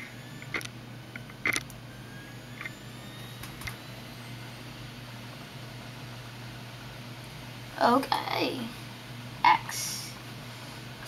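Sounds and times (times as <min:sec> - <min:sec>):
computer humming: 0:00.0 - 0:11.0.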